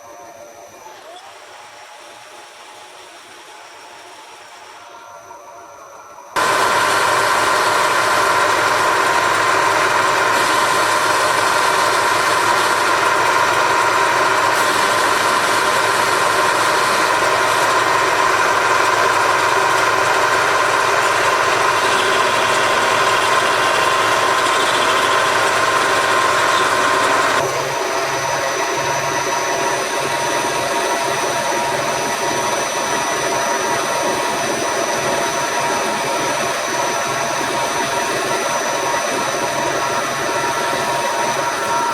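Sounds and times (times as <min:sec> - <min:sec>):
machine tool whining: 0:00.0 - 0:41.9.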